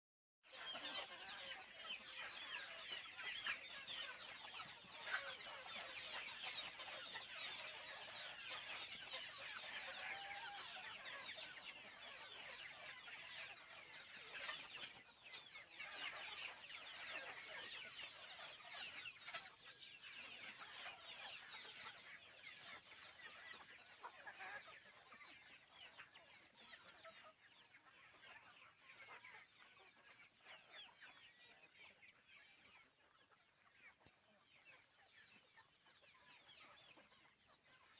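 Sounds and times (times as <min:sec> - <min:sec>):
chicks cheeping: 0:00.4 - 0:37.9.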